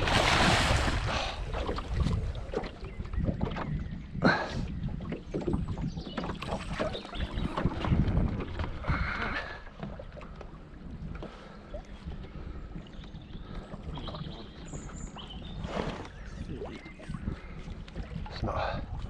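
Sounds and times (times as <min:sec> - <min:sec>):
water lapping against boat: 0:00.0 - 0:19.0
wind buffeting microphone: 0:00.0 - 0:19.0.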